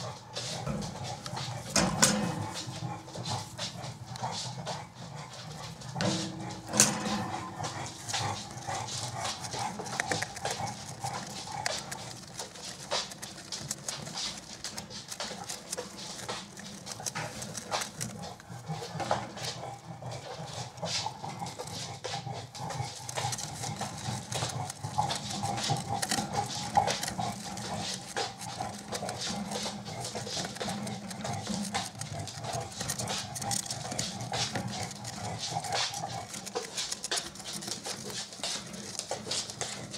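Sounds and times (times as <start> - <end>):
gerbil gnawing cardboard: 0.0 - 39.9.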